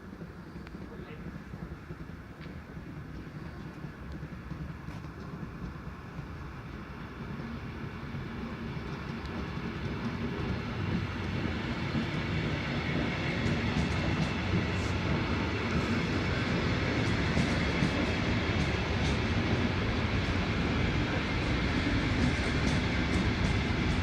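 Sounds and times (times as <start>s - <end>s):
train rumbling: 0.0s - 24.0s
wheels clicking on rails: 0.0s - 24.0s.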